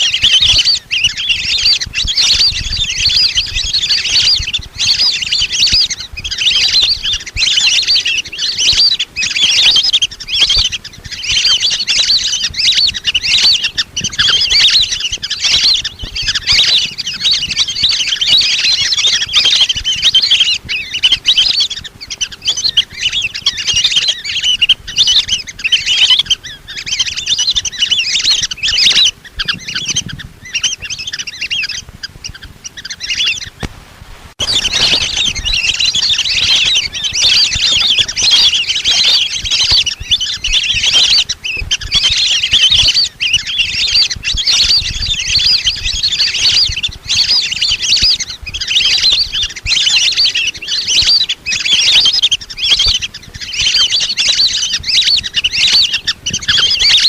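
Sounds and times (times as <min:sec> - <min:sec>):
ducks whistling calls: 0:00.0 - 0:33.7, 0:34.4 - 0:57.0.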